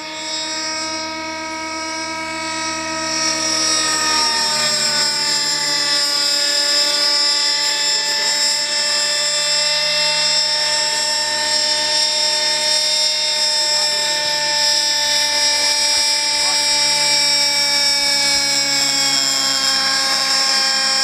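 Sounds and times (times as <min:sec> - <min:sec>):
model helicopter engine buzzing: 0:00.0 - 0:21.0.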